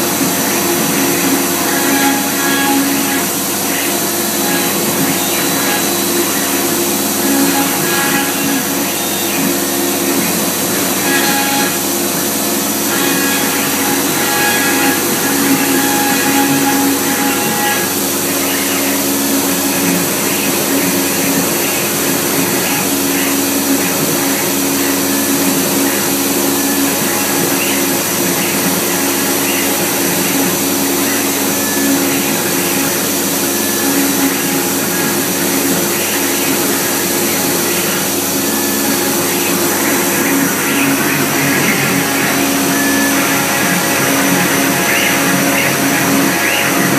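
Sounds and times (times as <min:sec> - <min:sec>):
dust extraction vacuum: 0:00.0 - 0:46.9
router spindle whine: 0:00.0 - 0:46.9
wood cutting noise: 0:00.0 - 0:46.9.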